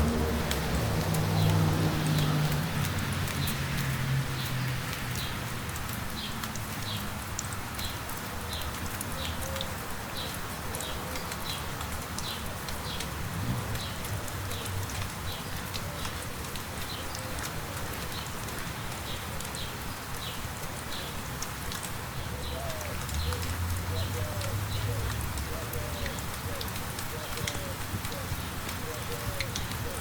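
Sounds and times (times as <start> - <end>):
light rain pattering: 0.0 - 30.0.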